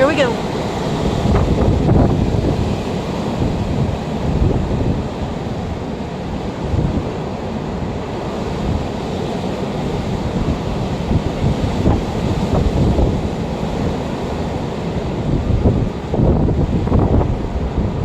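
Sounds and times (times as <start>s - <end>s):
strong wind gusts: 0.0s - 18.0s
wind buffeting microphone: 0.0s - 18.0s.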